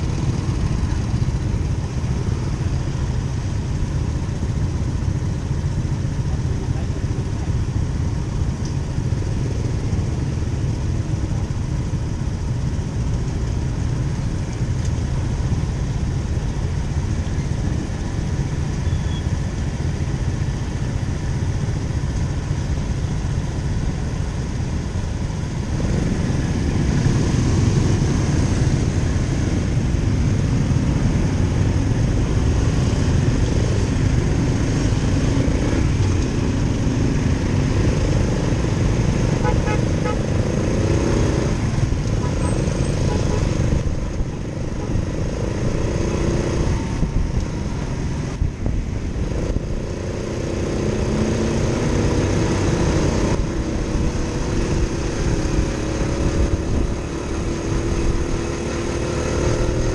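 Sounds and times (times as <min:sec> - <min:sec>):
motorcycle engine rumble: 0:00.0 - 0:59.9.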